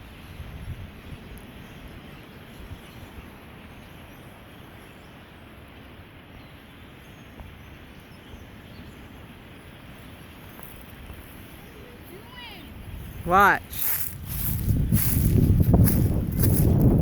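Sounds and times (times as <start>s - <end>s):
wind rumbling on microphone: 0.0s - 4.5s, 7.2s - 17.0s.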